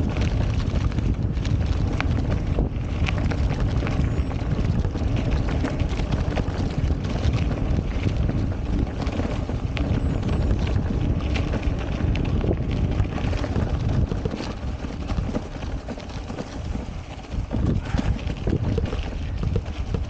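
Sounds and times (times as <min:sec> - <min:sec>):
tyre rumble: 0:00.0 - 0:20.0
wind buffeting microphone: 0:00.0 - 0:20.0.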